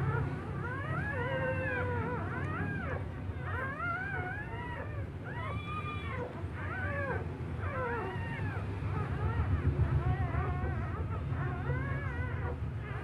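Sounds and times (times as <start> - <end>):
puppies crying: 0.0 - 13.0.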